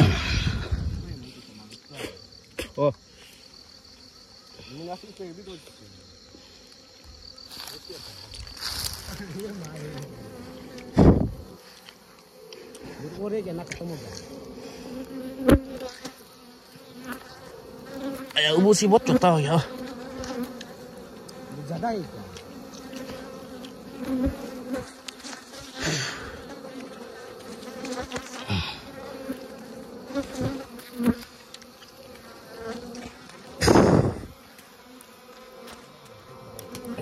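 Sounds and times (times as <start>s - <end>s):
bees buzzing: 3.0s - 37.0s.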